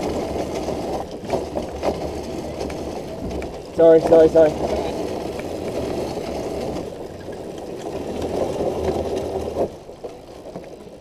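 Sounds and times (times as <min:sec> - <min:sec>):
fast mechanical rattle: 0:00.0 - 0:11.0
kart engine idling: 0:00.0 - 0:11.0.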